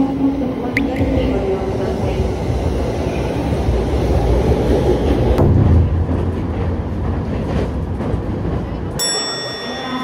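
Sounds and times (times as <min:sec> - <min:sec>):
train rumbling over bridge: 0:00.0 - 0:10.0.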